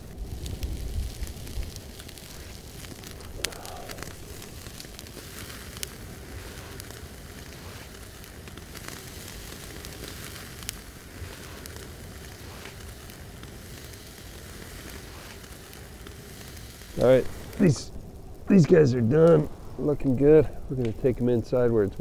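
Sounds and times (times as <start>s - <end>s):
steaks sizzling on a grill: 0.0s - 21.8s
burning wood popping: 0.0s - 22.0s
campfire crackling: 0.0s - 22.0s.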